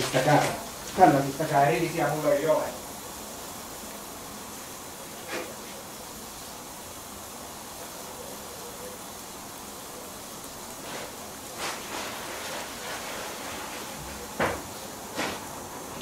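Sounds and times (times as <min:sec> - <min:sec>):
vegetables sizzling on a griddle: 0:00.0 - 0:16.0.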